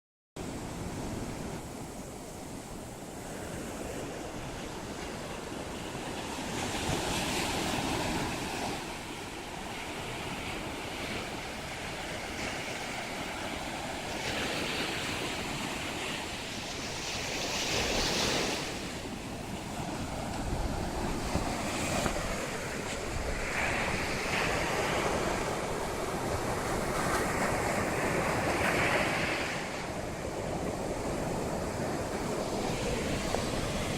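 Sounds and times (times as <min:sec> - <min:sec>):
sea waves breaking on a beach: 0:00.4 - 0:33.9
wind buffeting microphone: 0:00.6 - 0:33.9.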